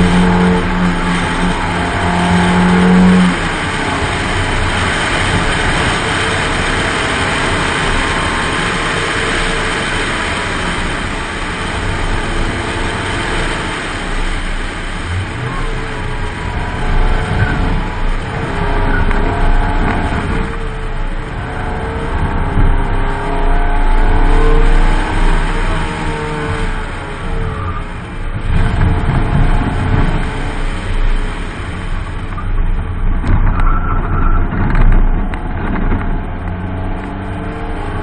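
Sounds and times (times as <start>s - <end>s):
car engine revving: 0.0s - 38.0s
wind and road noise: 0.0s - 38.0s.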